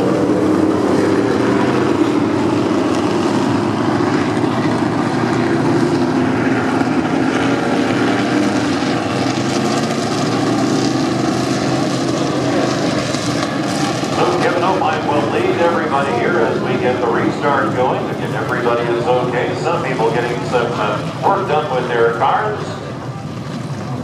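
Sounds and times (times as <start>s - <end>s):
vehicle engines idling: 0.0s - 24.0s.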